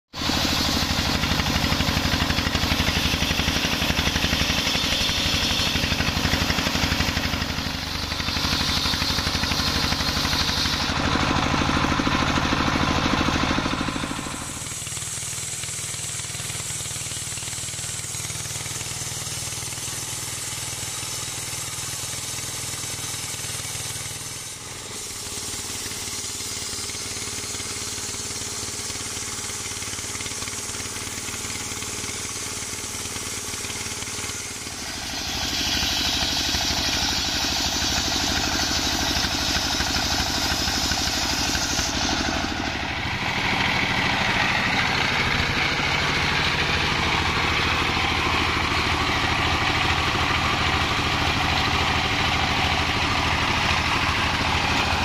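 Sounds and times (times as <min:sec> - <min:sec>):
circular saw cutting wood: 0:00.1 - 0:55.0
diesel engine chugging: 0:00.1 - 0:55.0.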